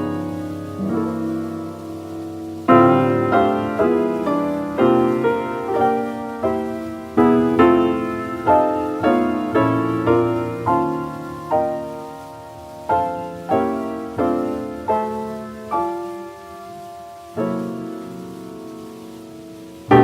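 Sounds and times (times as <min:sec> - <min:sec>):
jazz piano chords: 0:00.0 - 0:20.0.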